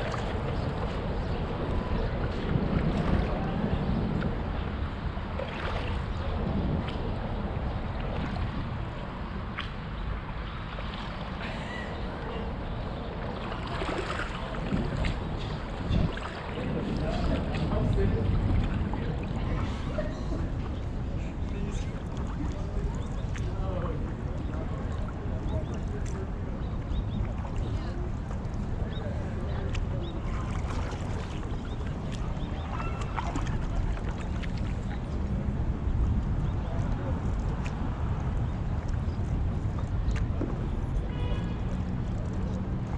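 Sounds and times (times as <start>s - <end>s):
paddle strokes splashing water: 0.0s - 42.9s
wind on microphone: 0.0s - 42.9s.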